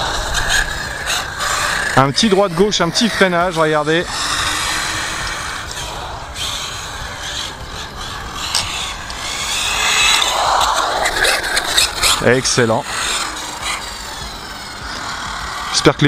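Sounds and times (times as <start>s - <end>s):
rc car motor whine: 0.0s - 16.0s.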